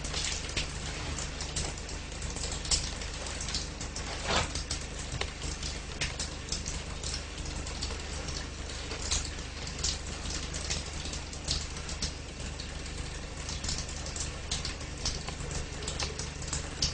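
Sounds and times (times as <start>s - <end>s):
mains hum: 0.0s - 16.9s.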